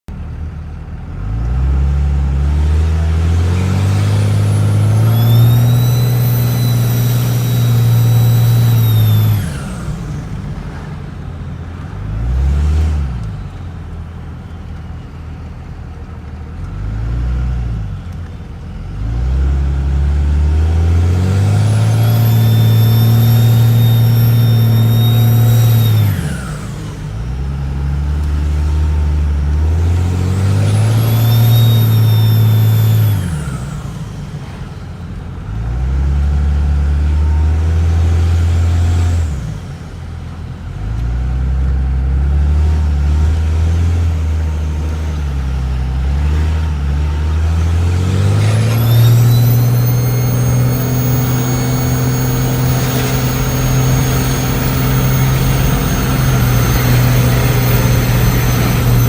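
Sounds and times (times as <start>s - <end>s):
diesel engine revving: 0.2s - 59.0s
turbocharger whining: 1.5s - 13.9s, 19.0s - 59.0s.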